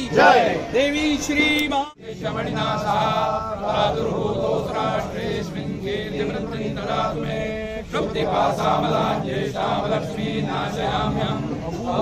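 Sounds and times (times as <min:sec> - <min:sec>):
group chanting devotional verses: 0:00.0 - 0:12.0.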